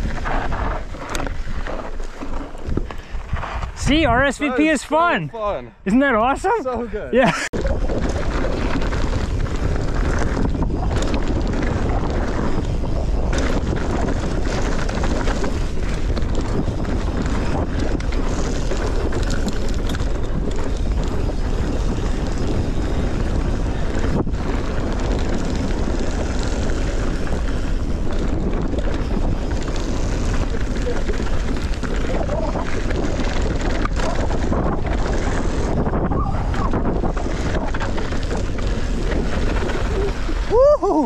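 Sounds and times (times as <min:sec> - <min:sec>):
wind buffeting microphone: 0:00.0 - 0:05.6, 0:06.4 - 0:41.0.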